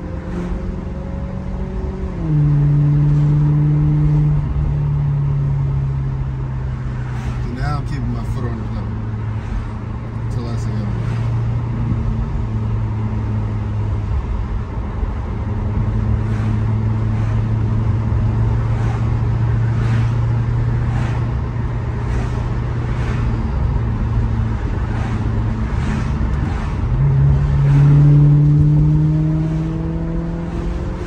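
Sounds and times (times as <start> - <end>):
car engine cruising drone: 0.0 - 31.0
car engine revving: 0.0 - 31.0.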